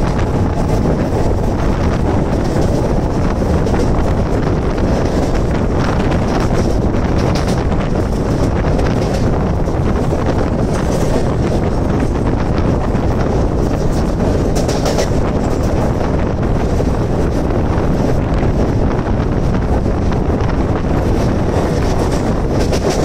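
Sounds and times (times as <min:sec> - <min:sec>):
train wheels rumbling on rails: 0:00.0 - 0:23.0
wind buffeting microphone: 0:00.0 - 0:23.0.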